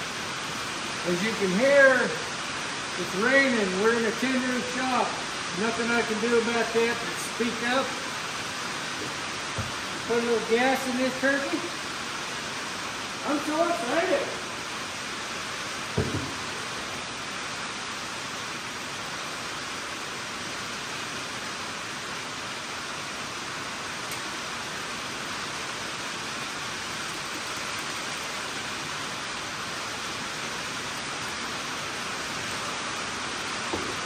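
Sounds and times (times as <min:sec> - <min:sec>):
rain on a tin roof: 0:00.0 - 0:34.0.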